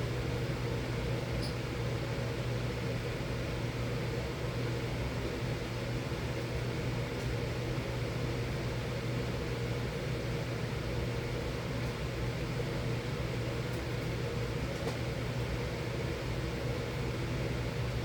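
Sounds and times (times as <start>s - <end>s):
furnace humming: 0.0s - 18.0s.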